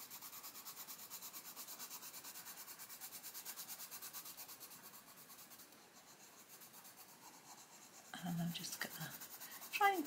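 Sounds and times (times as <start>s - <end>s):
pencil scratching on paper: 0.0s - 10.0s.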